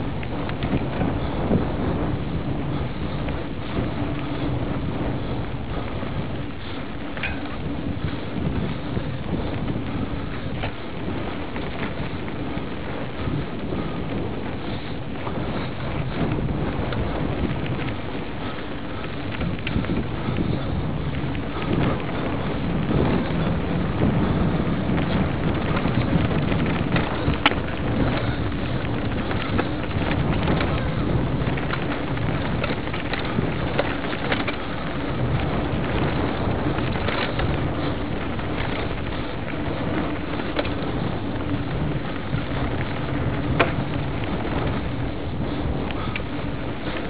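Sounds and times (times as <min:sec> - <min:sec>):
rattle and crunch over dirt trail: 0:00.0 - 0:47.0
wind buffeting microphone: 0:00.0 - 0:47.0.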